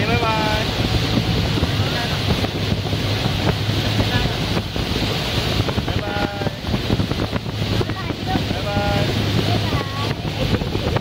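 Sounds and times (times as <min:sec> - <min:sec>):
motorboat engine running: 0:00.0 - 0:11.0
wind buffeting microphone: 0:00.0 - 0:11.0.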